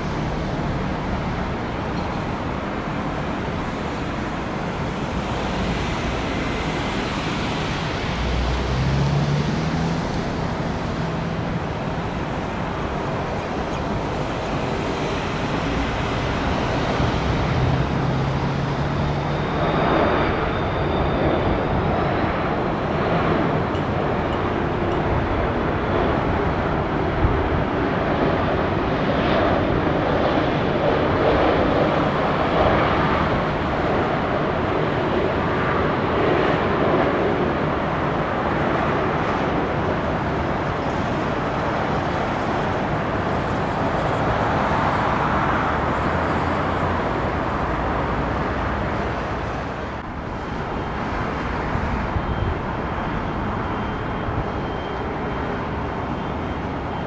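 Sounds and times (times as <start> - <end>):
jet airliner engines roaring: 0.0 - 57.0.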